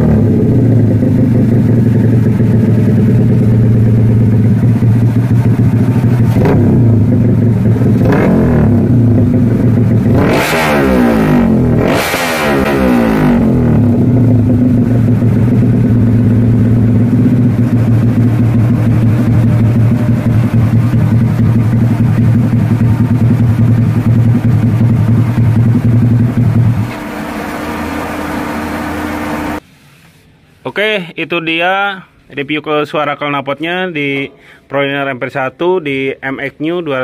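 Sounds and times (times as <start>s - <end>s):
motorcycle engine idling and revving: 0.0s - 29.6s.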